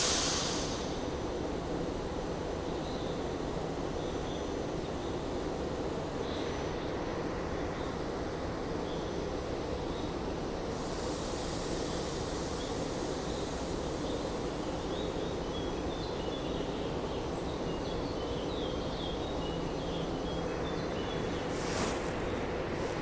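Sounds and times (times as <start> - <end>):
train station hum and rumble: 0.0 - 23.0.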